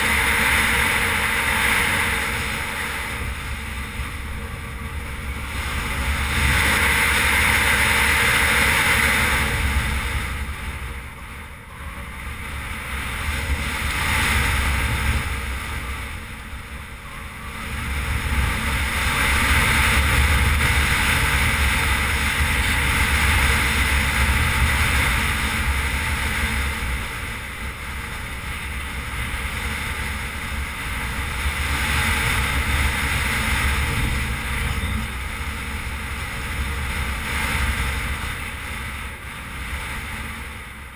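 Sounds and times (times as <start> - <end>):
motorcycle engine: 0.0 - 40.8
tyres on dirt road: 0.0 - 40.9
wind rushing over microphone: 0.0 - 40.9.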